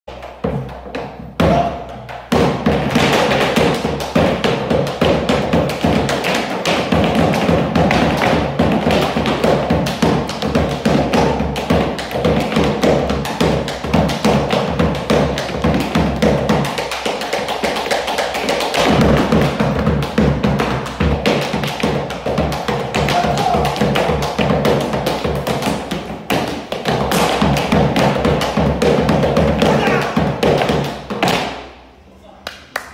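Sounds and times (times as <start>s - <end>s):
drum beating: 0.1s - 31.6s.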